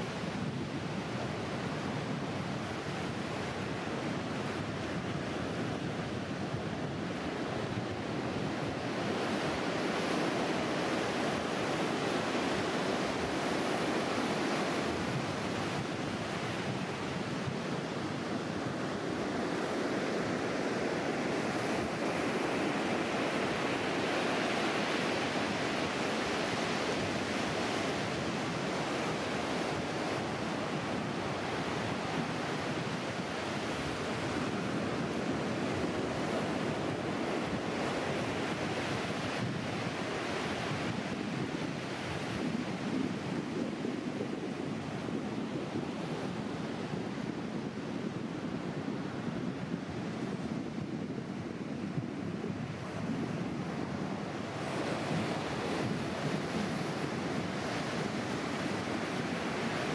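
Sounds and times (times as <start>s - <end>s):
surf washing into shallows: 0.0s - 59.9s.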